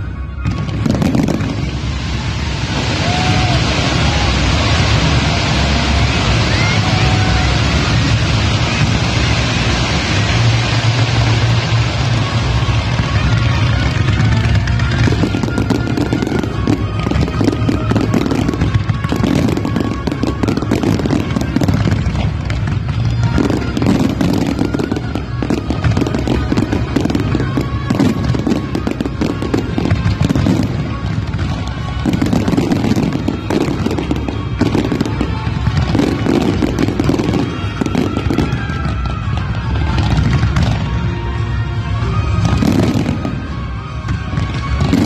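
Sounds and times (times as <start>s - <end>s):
fireworks bangs and crackles: 0.0s - 45.0s
music playing: 0.0s - 45.0s.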